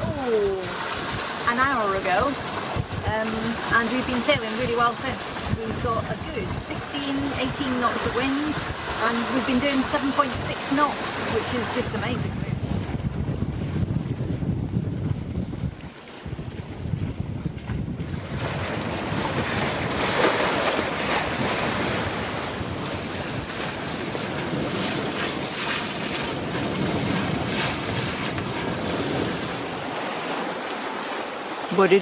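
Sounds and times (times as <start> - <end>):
wind buffeting microphone: 0.0 - 31.9
water rushing along a hull: 0.0 - 32.0.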